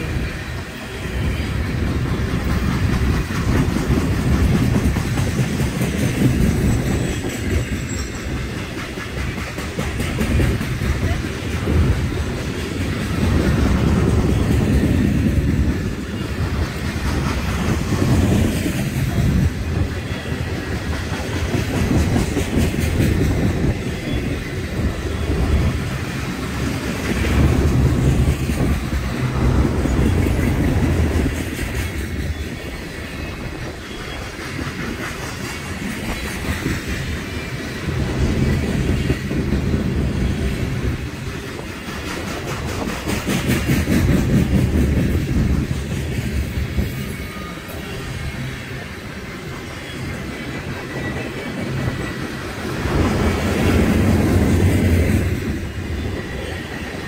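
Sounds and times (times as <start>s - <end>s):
heavy rumble of train cars: 0.0s - 57.0s
train wheels clickety-clack: 0.0s - 57.0s.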